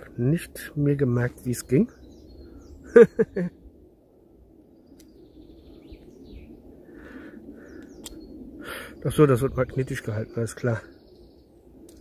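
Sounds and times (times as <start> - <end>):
faint bird chirps: 1.4 - 12.0.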